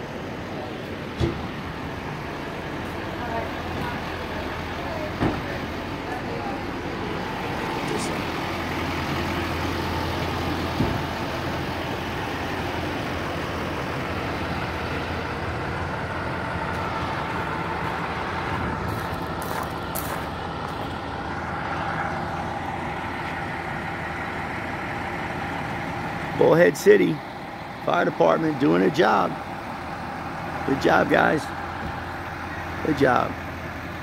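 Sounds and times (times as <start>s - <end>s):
diesel engines idling: 0.0s - 34.0s.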